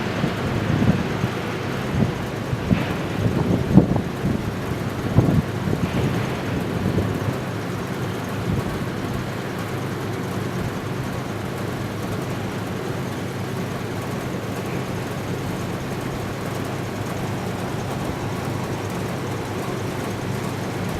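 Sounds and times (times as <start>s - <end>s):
hurricane wind: 0.0s - 20.9s
rain: 0.0s - 20.9s.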